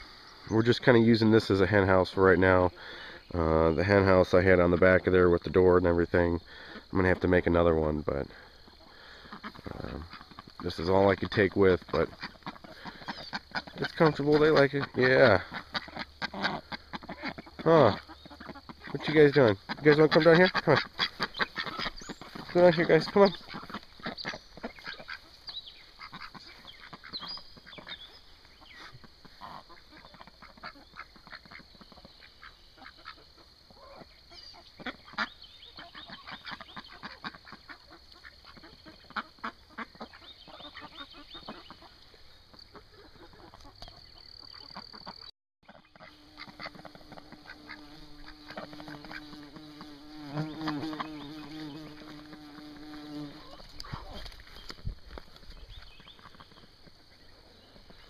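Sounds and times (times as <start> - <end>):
insect buzz: 0.0 - 58.0
ducks quacking: 0.6 - 42.1, 42.7 - 54.4.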